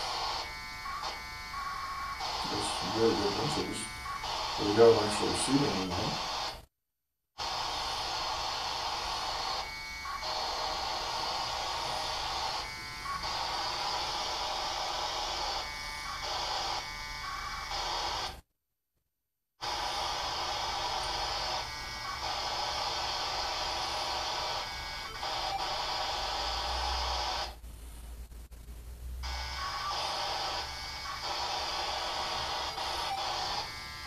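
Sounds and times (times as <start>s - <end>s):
radio static: 0.0s - 6.6s, 7.4s - 18.4s, 19.6s - 34.0s
radio tone: 0.0s - 6.6s, 7.4s - 18.4s, 19.6s - 27.6s, 29.2s - 34.0s.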